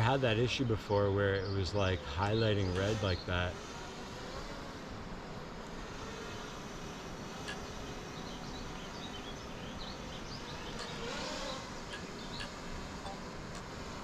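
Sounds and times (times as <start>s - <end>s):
small birds chirping: 0.0s - 4.5s, 5.7s - 13.8s
outdoor background noise: 0.0s - 14.0s.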